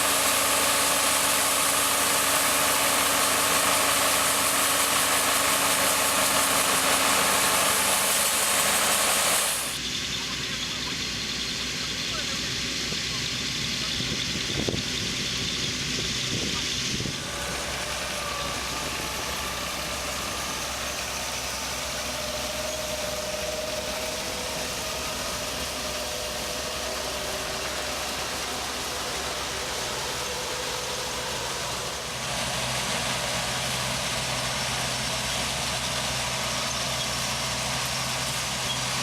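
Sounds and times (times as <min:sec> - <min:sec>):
machinery engine running: 0:00.0 - 0:39.0.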